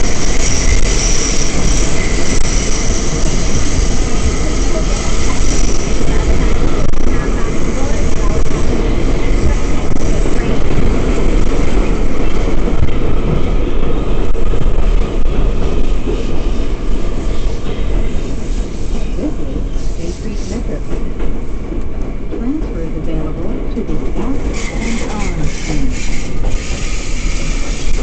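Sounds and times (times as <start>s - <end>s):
subway wheels rumbling on rail: 0.0s - 28.0s.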